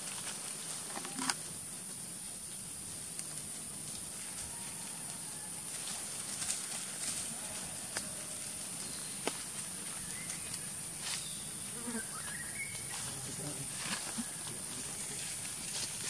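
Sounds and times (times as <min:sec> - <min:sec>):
monkeys scampering over grass: 0:00.0 - 0:16.0
steady high hiss: 0:00.0 - 0:16.0.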